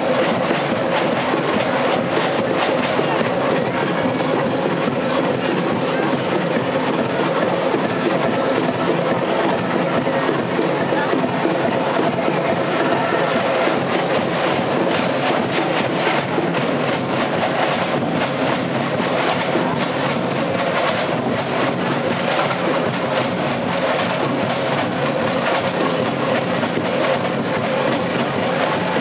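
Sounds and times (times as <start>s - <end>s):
drums and percussion playing: 0.0s - 29.0s.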